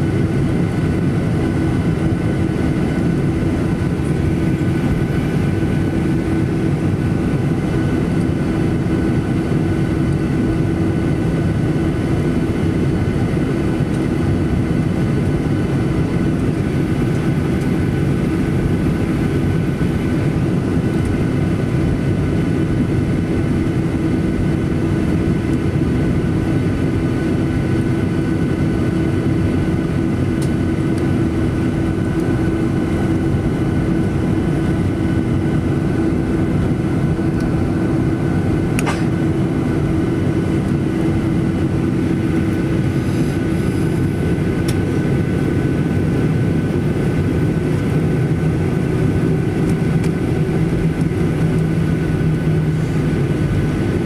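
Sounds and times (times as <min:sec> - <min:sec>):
cabin airflow noise: 0:00.0 - 0:54.0
jet engines humming: 0:00.0 - 0:54.0.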